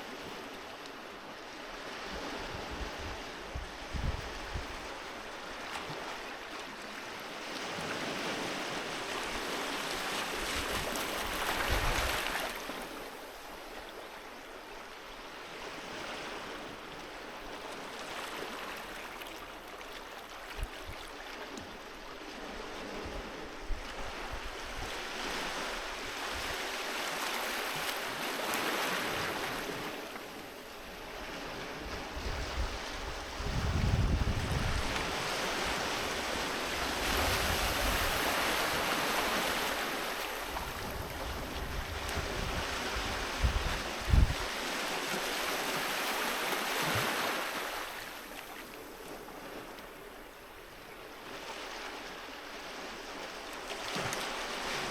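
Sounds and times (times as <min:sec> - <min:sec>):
sea waves breaking on a beach: 0:00.0 - 0:54.9.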